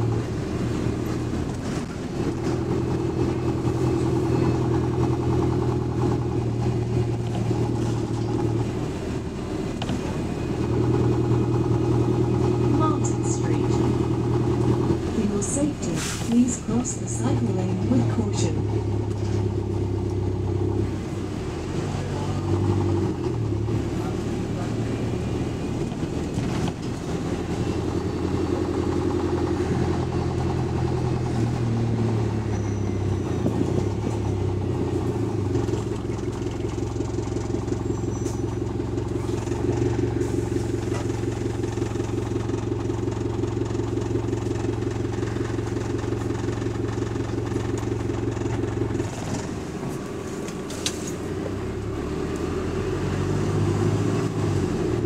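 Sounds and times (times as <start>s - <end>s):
bus engine drone: 0.0s - 55.0s.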